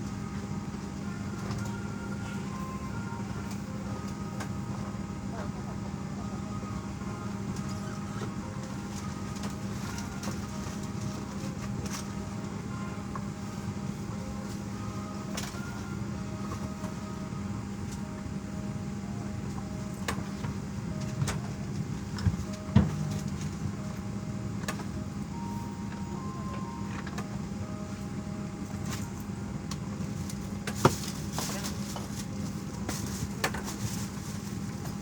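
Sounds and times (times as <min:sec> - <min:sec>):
cabin air system hum: 0:00.0 - 0:35.0.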